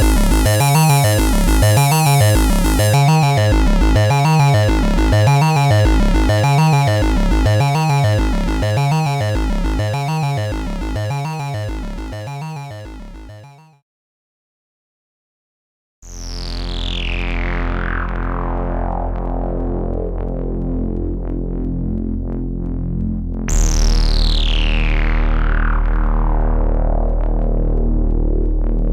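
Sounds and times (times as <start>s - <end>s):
synthesizer bass pattern: 0.0s - 13.7s, 16.8s - 28.9s.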